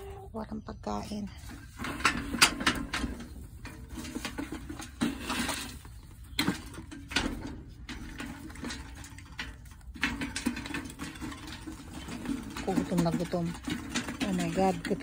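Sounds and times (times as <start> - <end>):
chickens pecking and clucking: 0.0 - 15.0.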